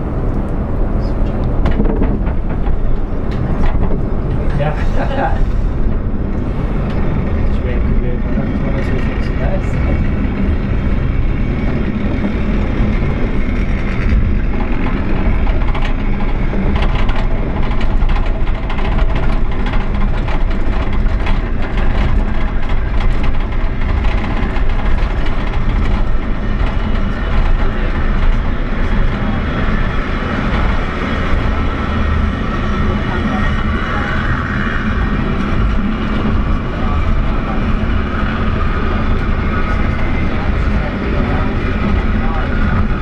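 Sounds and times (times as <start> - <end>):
wheels rumbling on rails: 0.0 - 43.0.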